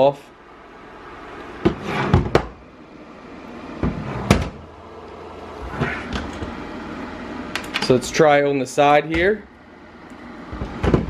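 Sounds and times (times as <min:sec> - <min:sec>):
heater fan blowing: 0:00.0 - 0:11.0.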